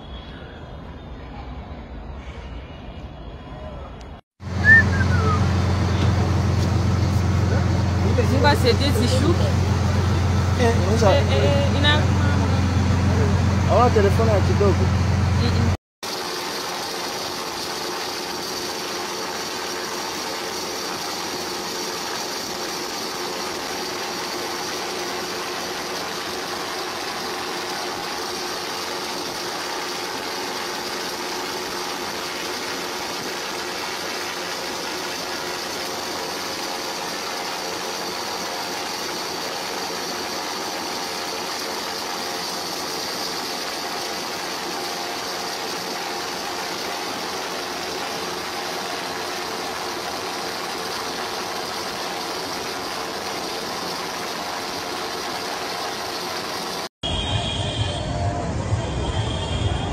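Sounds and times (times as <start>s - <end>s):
mechanical hum with hiss: 0.0s - 59.9s.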